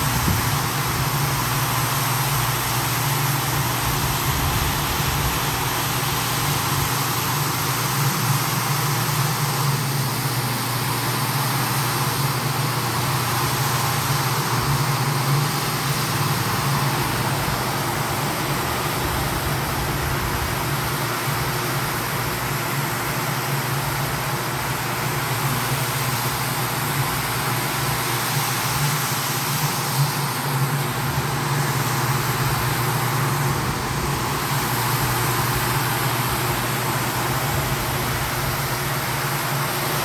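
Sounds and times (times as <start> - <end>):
floor machine motor hum: 0.0 - 40.0.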